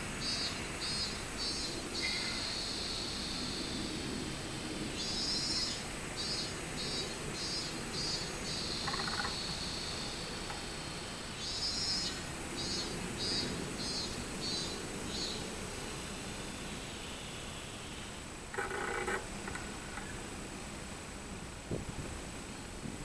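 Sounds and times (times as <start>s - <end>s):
cicada singing: 0.0s - 20.4s.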